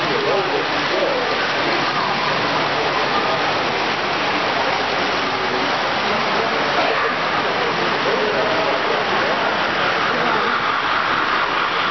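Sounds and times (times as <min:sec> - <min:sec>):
crowd chatter: 0:00.0 - 0:11.9.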